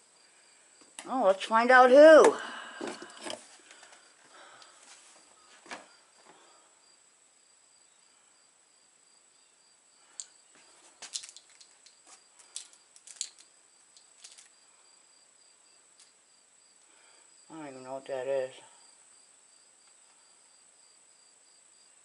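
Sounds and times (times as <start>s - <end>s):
cricket chirping: 0.0s - 1.6s, 2.4s - 22.0s.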